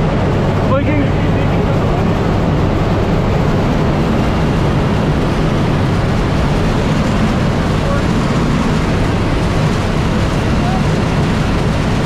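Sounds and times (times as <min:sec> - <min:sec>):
propeller engines droning: 0:00.0 - 0:12.0
rushing air: 0:00.0 - 0:12.0.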